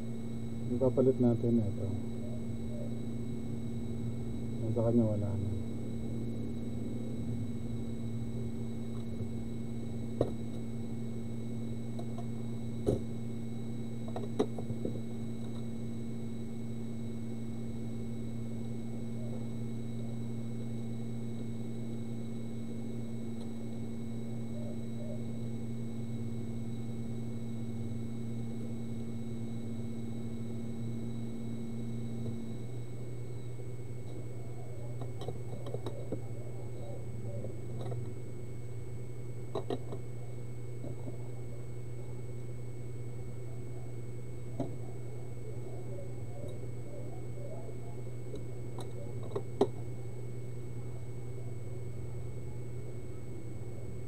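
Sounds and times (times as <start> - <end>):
electrical hum from equipment: 0.0 - 54.0.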